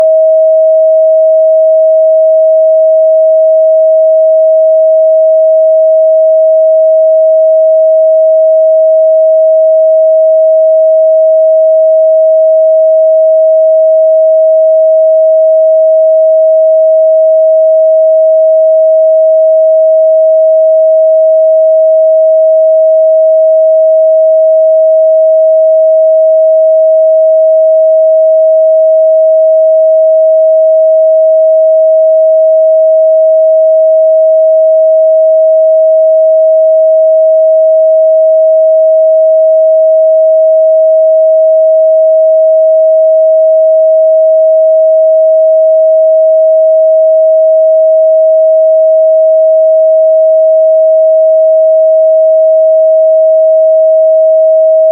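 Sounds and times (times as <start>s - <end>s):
sine-wave test tone: 0.0s - 54.9s.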